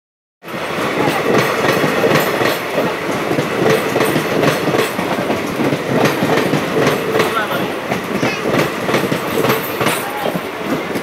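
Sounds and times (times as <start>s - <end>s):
train coaches rumbling past: 0.4s - 11.0s
wheels clacking over rail joints: 0.5s - 11.0s.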